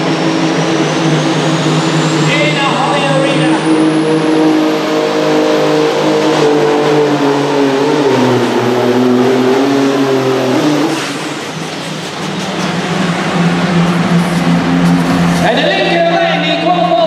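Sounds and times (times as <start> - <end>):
tractor engine at high revs: 0.0 - 17.0.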